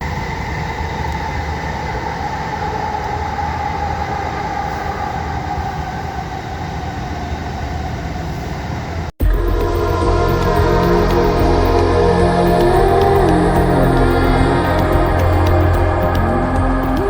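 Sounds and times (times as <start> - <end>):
train whine: 0.0 - 17.0.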